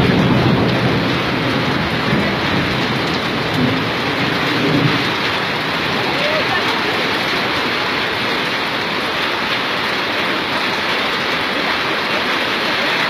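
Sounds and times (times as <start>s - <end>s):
floodwater rushing along street: 0.0s - 13.0s
heavy rain pouring: 0.0s - 13.0s.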